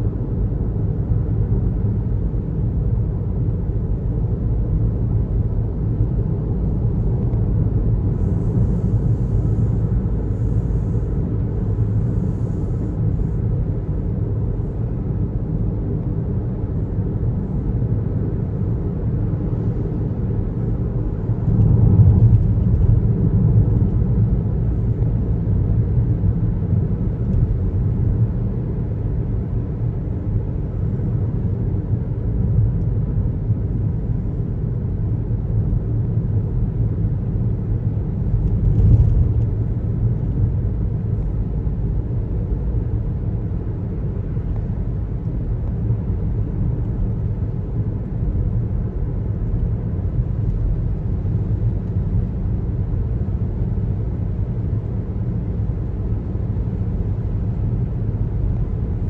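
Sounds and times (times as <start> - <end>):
car driving rumble: 2.6 - 59.0.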